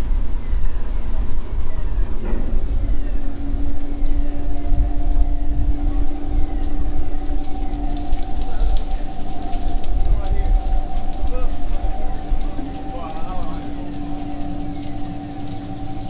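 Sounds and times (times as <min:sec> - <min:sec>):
low uneven rumble: 0:00.0 - 0:16.0
machine hum: 0:00.0 - 0:16.0.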